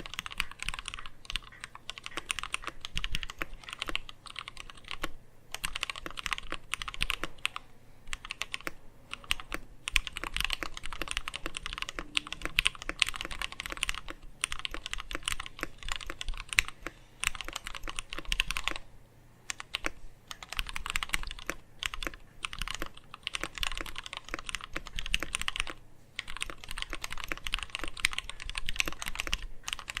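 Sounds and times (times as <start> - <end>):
mechanical keyboard typing: 0.0 - 18.8, 19.5 - 30.0.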